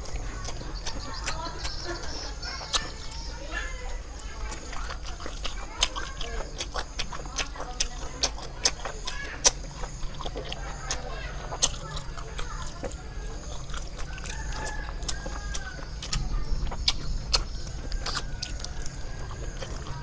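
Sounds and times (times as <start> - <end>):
chicken clucking: 0.0 - 20.0
wet chewing and lip-smacking: 0.0 - 20.0.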